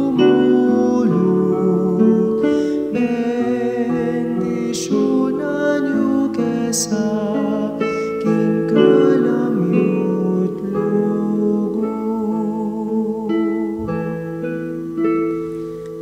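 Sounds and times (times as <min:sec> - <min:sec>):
man singing: 0:00.0 - 0:14.6
guitar and keyboard backing: 0:00.0 - 0:16.0.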